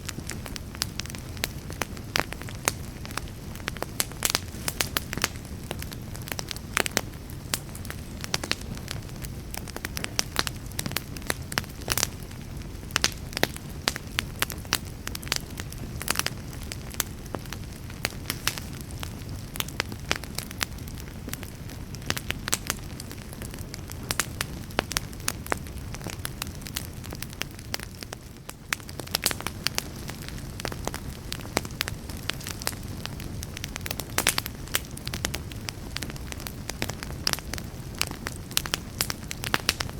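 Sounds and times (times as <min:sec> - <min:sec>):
fire crackles and pops: 0:00.0 - 0:39.9
wood fire burning: 0:00.0 - 0:39.9.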